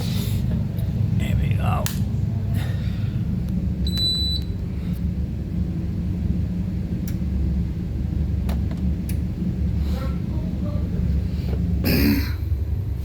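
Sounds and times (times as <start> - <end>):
compressor humming: 0.0 - 13.0.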